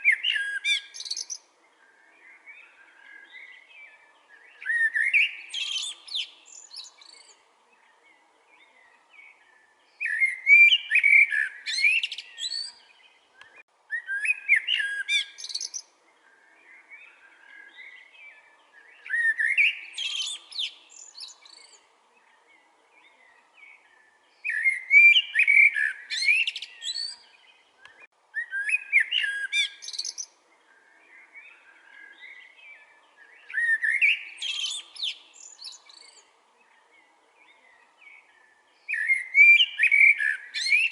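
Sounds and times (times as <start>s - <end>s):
blackbird singing: 0.0s - 40.9s.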